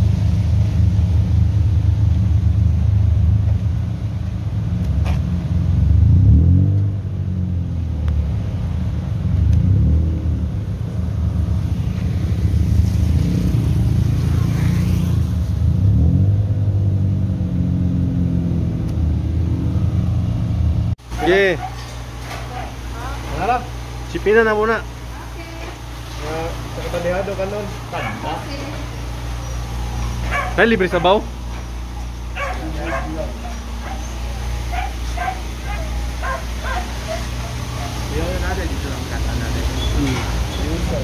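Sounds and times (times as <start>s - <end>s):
car engines idling: 0.0s - 41.0s.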